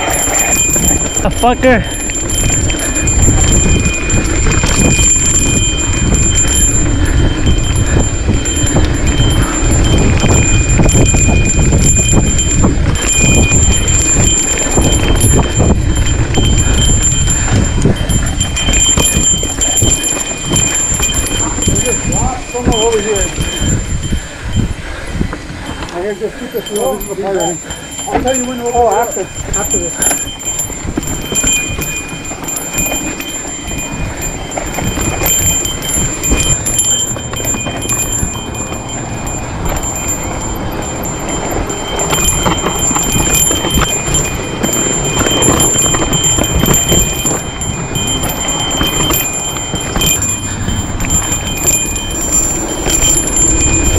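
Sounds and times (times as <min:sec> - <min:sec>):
bike knocking and rattling: 0:00.0 - 0:53.9
rumble of tyres and wind: 0:00.0 - 0:53.9.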